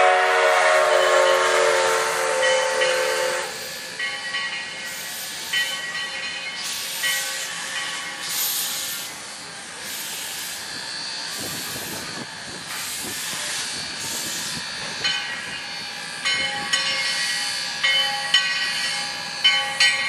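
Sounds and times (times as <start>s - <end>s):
steam locomotive exhaust beats: 0.0s - 20.0s.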